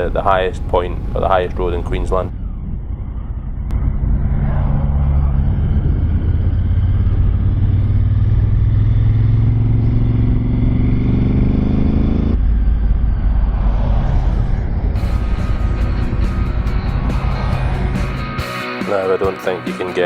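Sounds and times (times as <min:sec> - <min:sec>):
motorcycle engine accelerating: 0:00.0 - 0:19.7.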